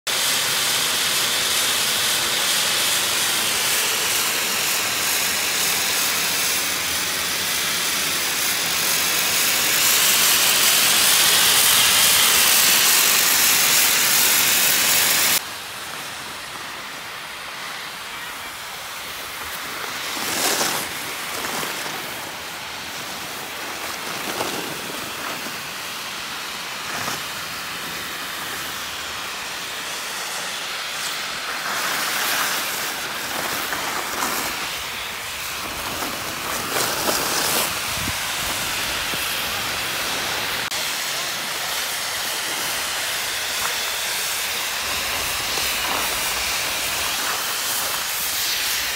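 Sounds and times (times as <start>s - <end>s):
snowmaking gun hissing: 0.0s - 48.9s
skis swishing on snow: 0.2s - 48.9s.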